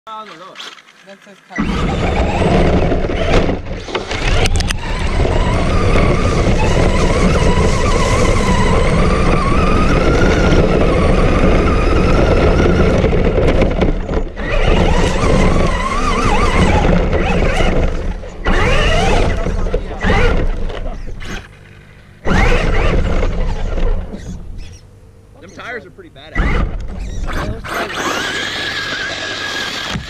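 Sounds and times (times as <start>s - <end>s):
radio-controlled car motor whining: 1.5s - 21.6s, 22.2s - 30.0s.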